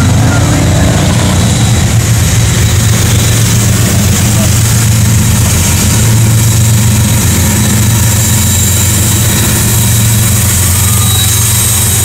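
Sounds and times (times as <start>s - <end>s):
diesel locomotives passing: 0.0s - 12.0s
faint high whine: 1.0s - 12.0s.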